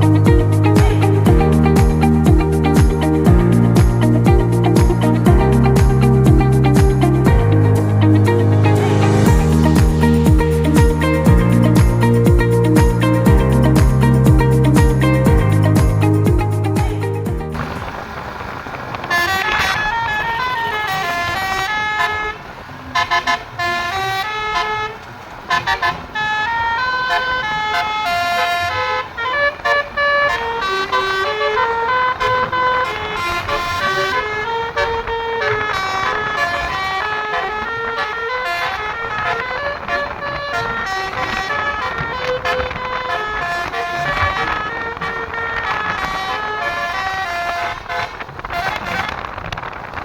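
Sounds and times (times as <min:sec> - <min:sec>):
bus horn playing a tune: 0:00.0 - 0:18.2, 0:19.0 - 0:50.0.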